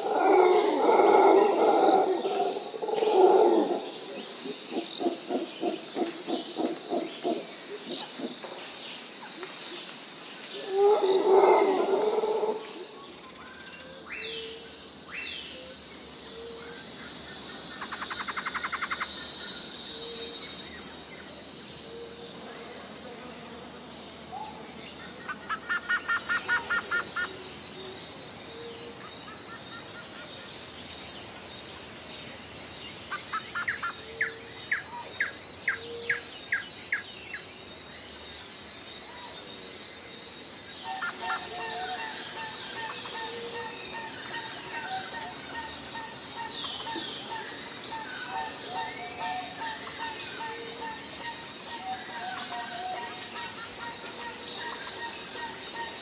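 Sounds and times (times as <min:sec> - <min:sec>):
birds chirping and trilling: 0:00.0 - 0:09.1, 0:10.6 - 0:56.0
high insect drone: 0:00.0 - 0:56.0.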